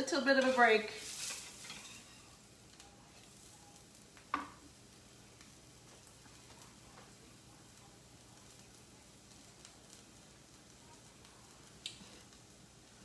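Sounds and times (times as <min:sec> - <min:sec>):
tortillas sizzling in a pan: 0:00.0 - 0:13.0.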